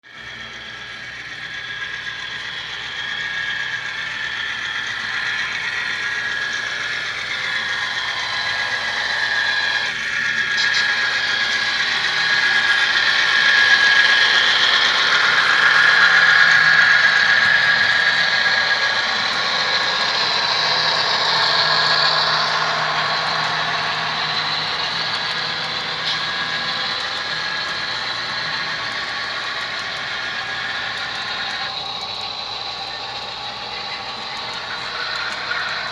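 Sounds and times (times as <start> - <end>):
model train motor whine: 0.0 - 35.9
wheels squealing on rails: 0.0 - 35.9.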